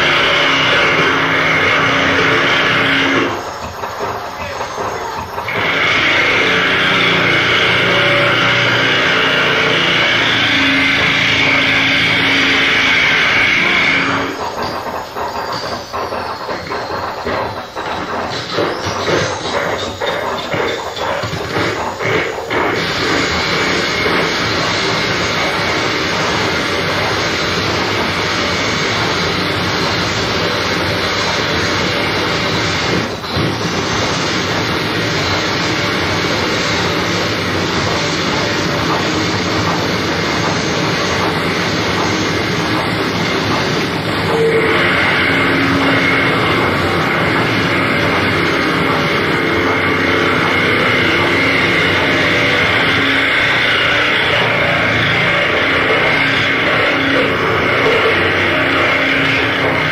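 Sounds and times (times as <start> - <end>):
harsh noise music: 0.0 - 59.9.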